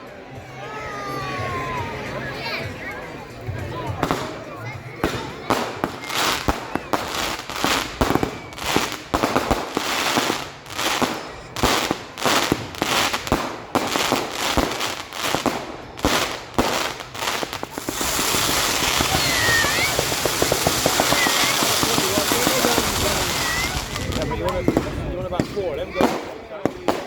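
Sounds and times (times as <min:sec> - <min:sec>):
fireworks bangs and crackling: 0:03.5 - 0:27.0.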